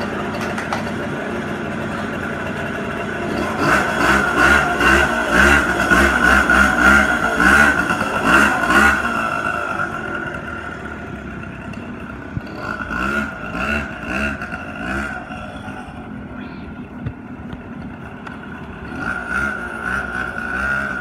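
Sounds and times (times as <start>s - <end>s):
small engine revving: 0.0s - 16.2s, 17.9s - 21.0s.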